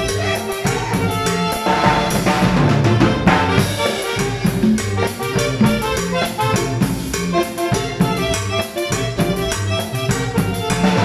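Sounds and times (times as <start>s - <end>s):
conga: 0.0s - 11.0s
drum kit: 0.0s - 11.0s
electric bass: 0.0s - 11.0s
keyboard: 0.0s - 11.0s.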